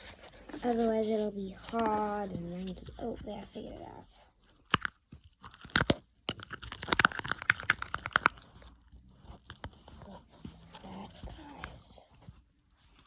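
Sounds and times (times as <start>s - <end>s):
slime being mixed: 0.0s - 13.0s.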